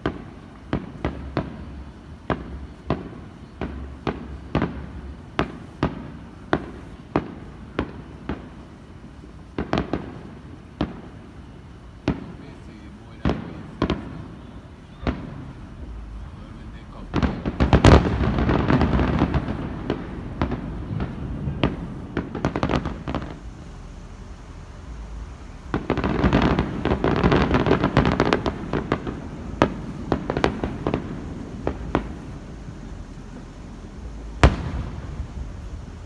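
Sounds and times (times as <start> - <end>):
fireworks crackling pops: 0.0 - 36.0
fireworks sharp bang: 0.0 - 36.0.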